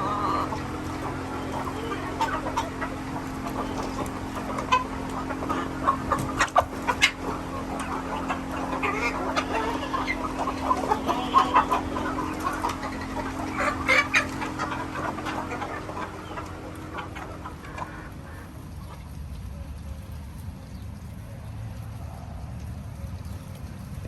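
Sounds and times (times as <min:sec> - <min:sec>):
chickens clucking: 0:00.0 - 0:20.1
steady low hum: 0:00.0 - 0:24.0.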